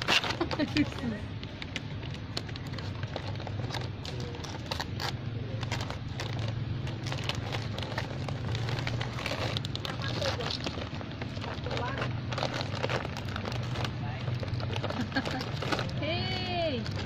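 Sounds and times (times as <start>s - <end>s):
plastic snack bag crinkling: 0.0s - 17.0s
steady low rumble: 0.0s - 17.0s.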